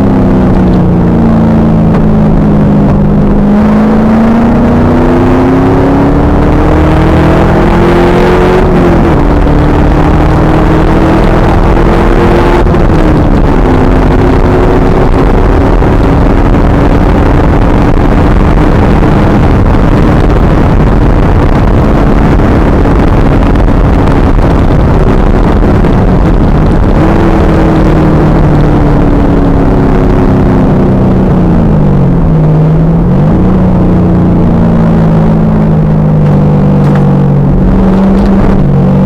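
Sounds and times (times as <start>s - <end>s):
car engine running hard: 0.0s - 39.0s.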